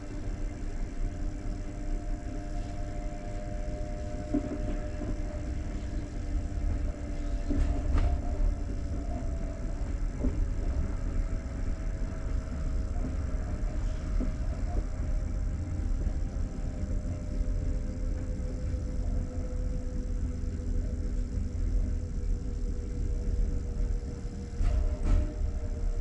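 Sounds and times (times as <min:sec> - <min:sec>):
mid-pitched hum: 0:00.0 - 0:26.0
train carriage rumble: 0:00.0 - 0:26.0.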